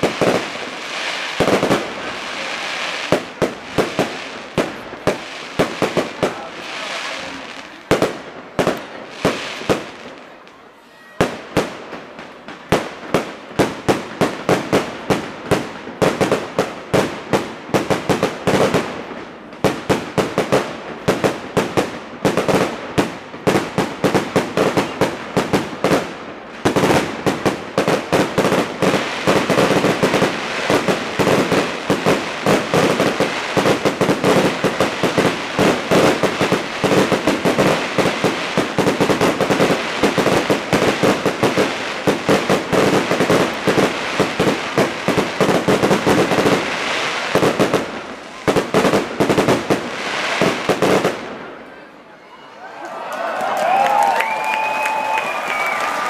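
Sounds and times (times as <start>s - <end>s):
fireworks bangs: 0.0s - 52.4s.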